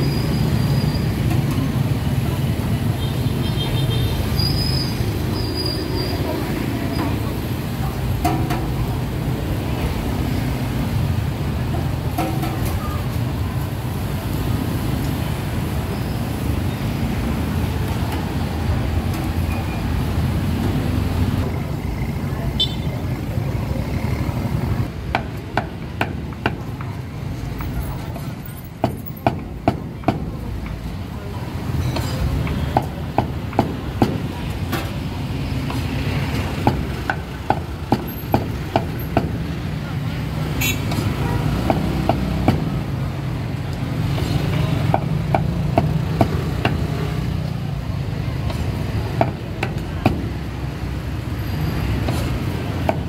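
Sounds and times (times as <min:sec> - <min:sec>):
street traffic rumble: 0:00.0 - 0:53.0.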